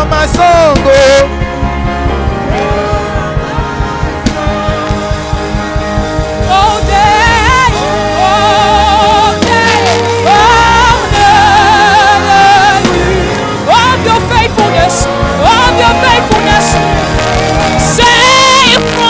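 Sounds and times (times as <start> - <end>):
gospel band playing: 0.0 - 19.0
person singing with vibrato: 2.1 - 19.0.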